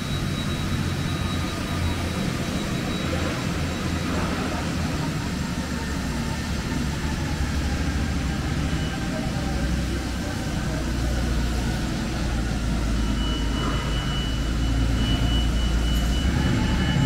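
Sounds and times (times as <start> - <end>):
factory machinery drone: 0.0 - 17.0
faint high whine: 0.0 - 17.0.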